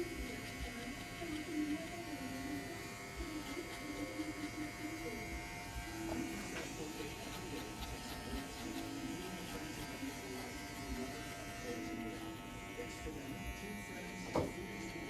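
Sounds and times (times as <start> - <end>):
hair clippers buzzing: 0.0 - 15.0.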